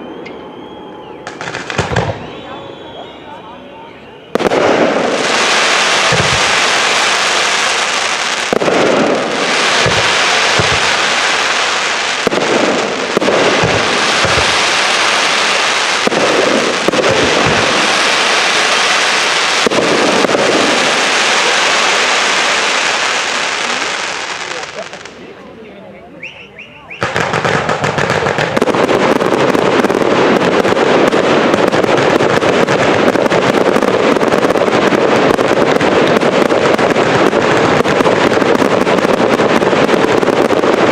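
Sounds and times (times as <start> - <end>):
fireworks bursting with dull thumps: 1.2 - 3.0, 4.3 - 25.2, 26.9 - 40.9
continuous crackling hiss: 4.8 - 26.2, 27.1 - 40.9.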